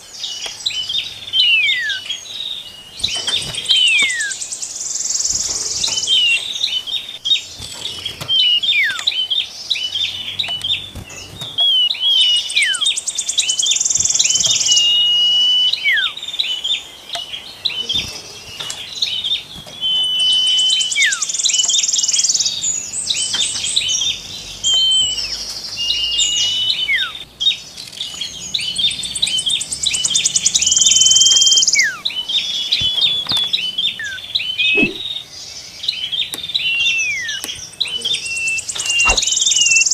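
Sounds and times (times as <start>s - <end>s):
small songbirds singing: 0.0s - 39.9s.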